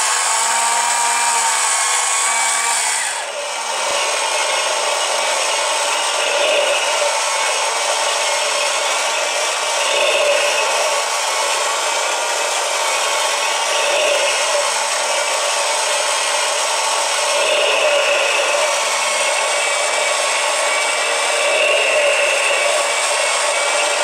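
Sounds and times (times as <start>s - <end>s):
model engine running: 0.0s - 24.0s.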